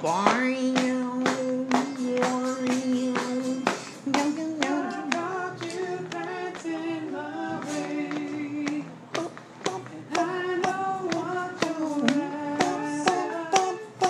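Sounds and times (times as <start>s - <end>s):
person singing: 0.0s - 14.0s
steady hand claps: 0.0s - 14.0s.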